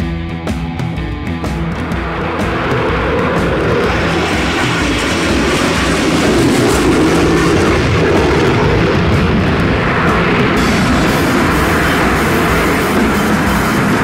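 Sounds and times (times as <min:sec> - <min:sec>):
airplane passing: 0:00.0 - 0:14.0.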